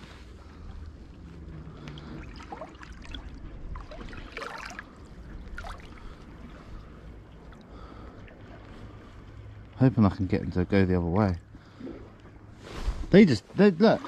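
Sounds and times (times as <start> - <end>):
low steady rumble: 0.0 - 14.0
seawater trickling among rocks: 0.0 - 14.0.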